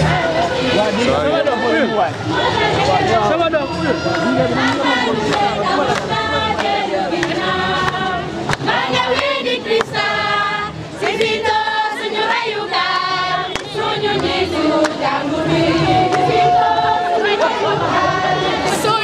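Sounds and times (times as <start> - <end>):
crowd singing a hymn: 0.0 - 19.0.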